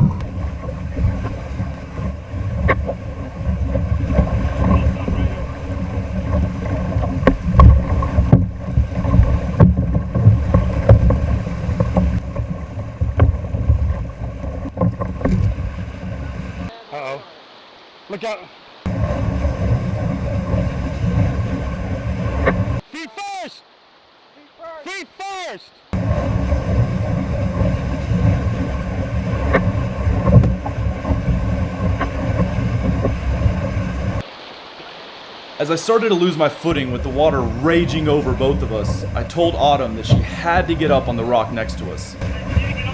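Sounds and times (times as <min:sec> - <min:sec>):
wind buffeting microphone: 0:00.0 - 0:16.7, 0:18.8 - 0:22.8, 0:25.9 - 0:34.2, 0:36.6 - 0:42.9
rushing water rumble: 0:00.0 - 0:42.9.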